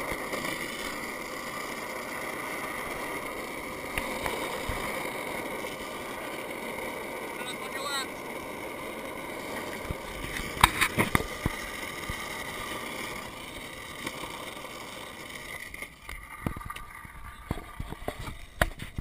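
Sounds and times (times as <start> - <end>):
longboard wheels rolling on asphalt: 0.0 - 19.0.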